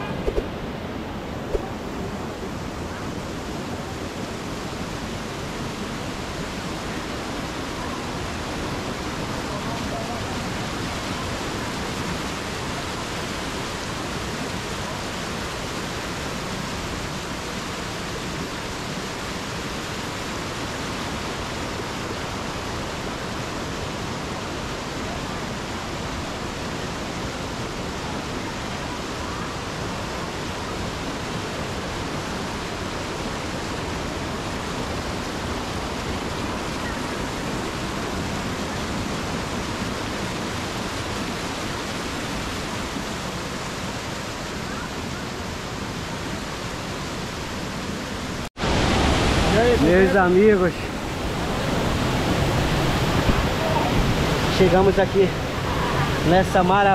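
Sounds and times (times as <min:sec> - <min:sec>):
waterfall rushing over boulders: 0:00.0 - 0:56.9.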